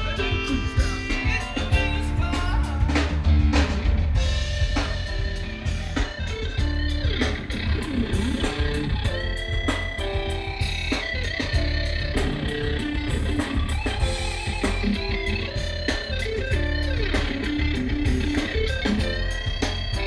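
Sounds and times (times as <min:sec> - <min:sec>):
bass: 0:00.0 - 0:20.0
drums: 0:00.0 - 0:20.0
guitar with sliding notes: 0:00.0 - 0:20.0.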